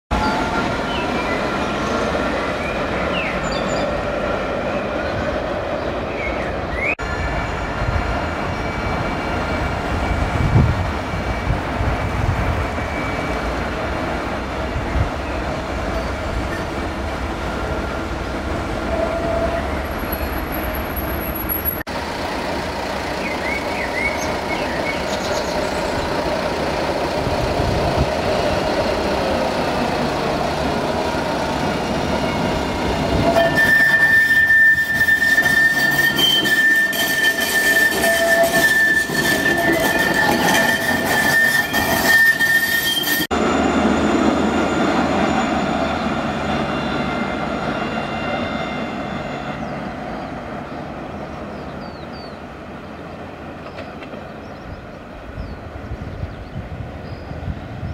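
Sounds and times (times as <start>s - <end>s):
tram rumbling: 0.1s - 57.9s
tram wheels squealing: 0.1s - 57.9s.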